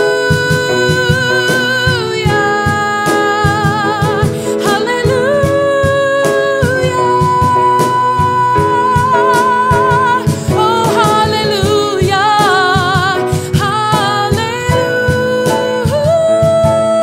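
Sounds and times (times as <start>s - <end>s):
piano accompaniment: 0.0s - 17.0s
woman singing with vibrato: 0.0s - 17.0s.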